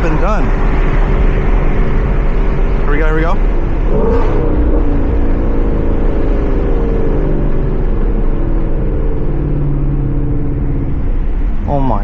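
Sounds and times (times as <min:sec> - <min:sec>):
car engine revs falling: 0:00.0 - 0:11.7.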